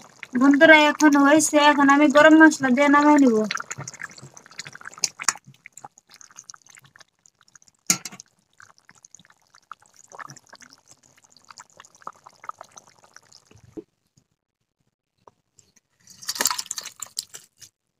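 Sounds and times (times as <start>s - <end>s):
curry bubbling and popping: 0.0s - 13.9s, 16.0s - 17.7s.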